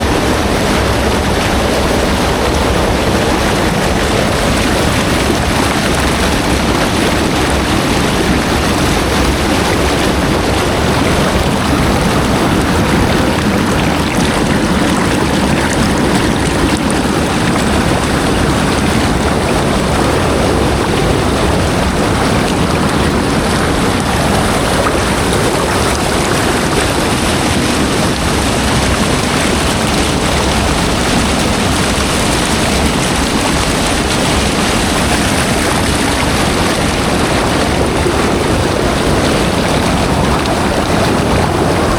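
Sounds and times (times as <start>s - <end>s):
loud rushing water: 0.0s - 41.9s.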